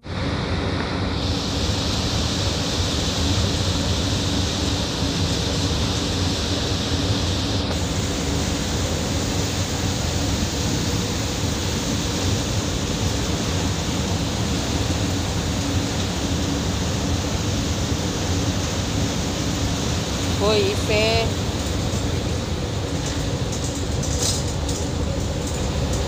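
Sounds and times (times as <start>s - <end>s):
churning water rushing: 0.0s - 26.0s
low ship engine hum: 0.0s - 26.0s.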